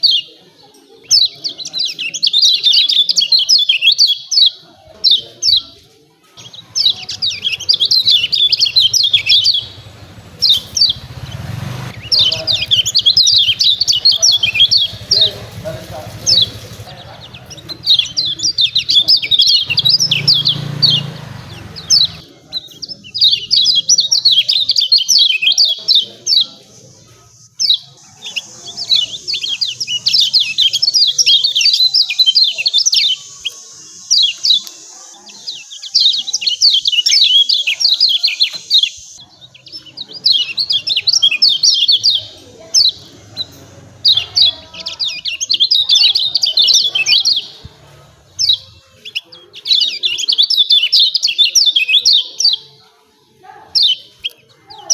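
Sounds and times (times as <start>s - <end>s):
bird chirping calls: 0.0s - 54.9s.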